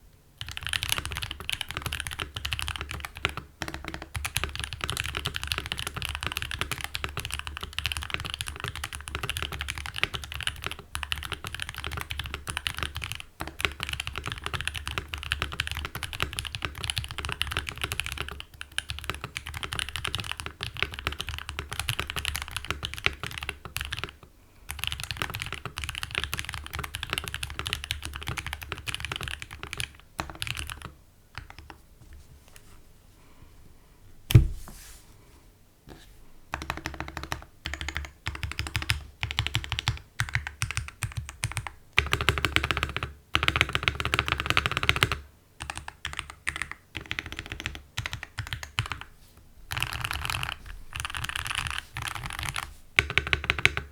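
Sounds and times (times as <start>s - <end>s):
typing on mechanical keyboard: 0.4s - 31.8s, 36.5s - 49.1s, 49.7s - 53.9s.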